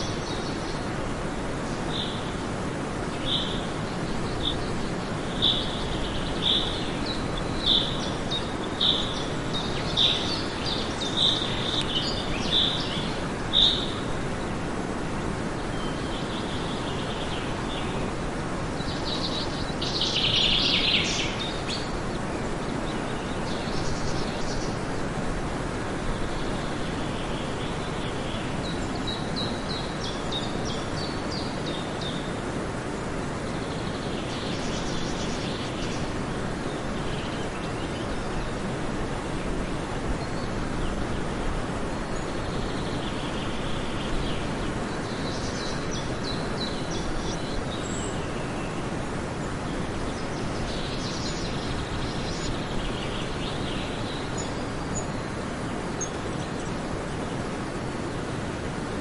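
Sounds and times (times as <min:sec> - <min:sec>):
birds chirping: 0:00.0 - 0:59.0
steady rushing noise: 0:00.0 - 0:59.0.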